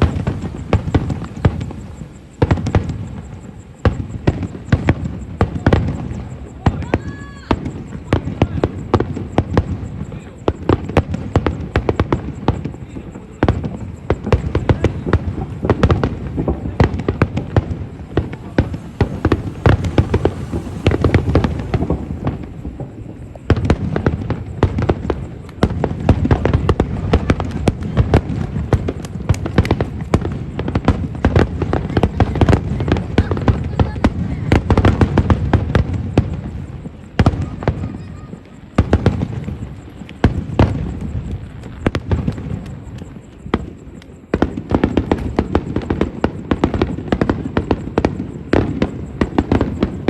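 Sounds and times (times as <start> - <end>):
fireworks bursts and crackles: 0.0 - 50.0.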